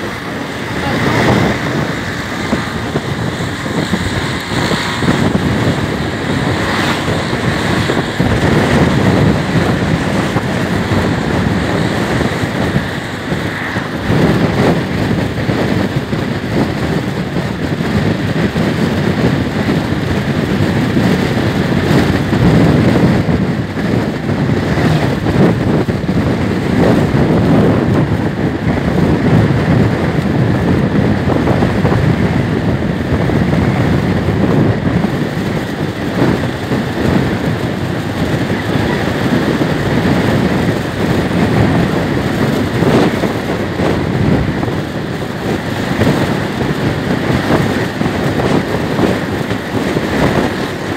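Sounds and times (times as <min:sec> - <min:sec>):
scooter engine: 0:00.0 - 0:50.9
wind rushing over microphone: 0:00.0 - 0:50.9.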